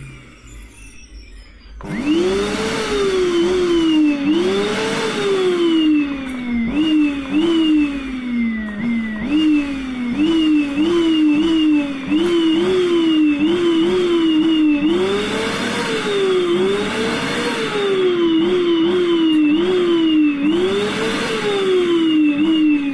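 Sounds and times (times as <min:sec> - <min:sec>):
vacuum cleaner motor whining: 0:00.0 - 0:22.9.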